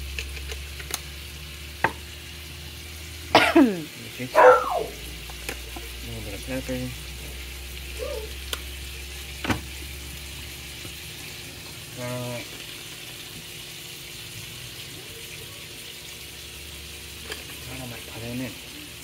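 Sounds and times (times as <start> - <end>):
chicken sizzling in a skillet: 0.0 - 19.0.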